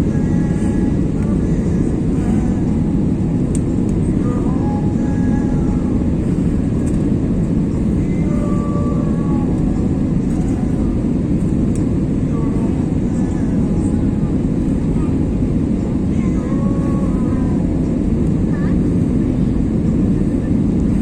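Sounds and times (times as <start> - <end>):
airplane cabin engine noise: 0.0 - 21.0.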